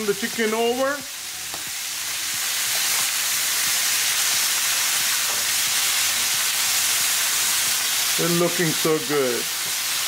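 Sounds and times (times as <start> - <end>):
meat sizzling in a frying pan: 0.0 - 10.0
oil crackling spatters: 0.0 - 10.0.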